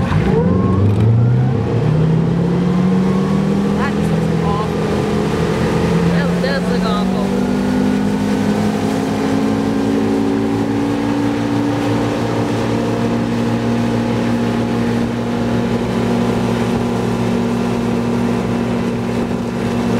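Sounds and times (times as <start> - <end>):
boat engine running: 0.0 - 19.9
water rushing: 0.0 - 19.9
wind: 0.0 - 19.9.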